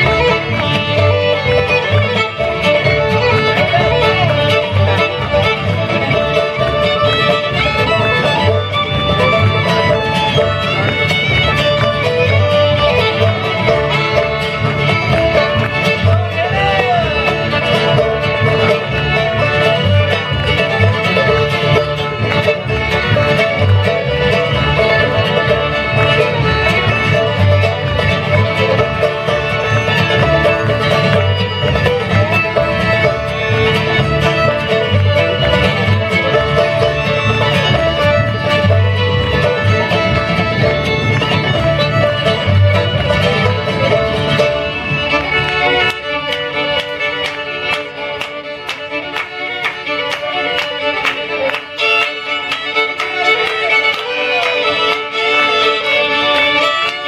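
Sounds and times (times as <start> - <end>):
acoustic guitar: 0.0 - 46.4
banjo: 0.0 - 57.0
fiddles playing fast melody: 0.0 - 57.0
upright bass: 0.0 - 57.0.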